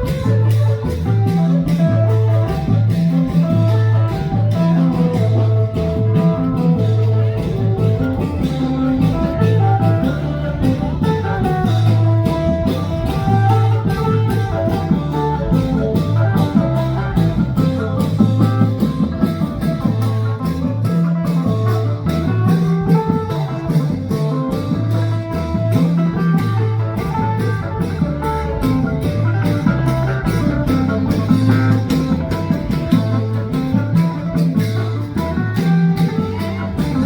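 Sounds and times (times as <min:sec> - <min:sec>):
bass line: 0:00.0 - 0:37.0
plucked string melody: 0:00.0 - 0:37.0
steady drum beat: 0:00.0 - 0:37.0.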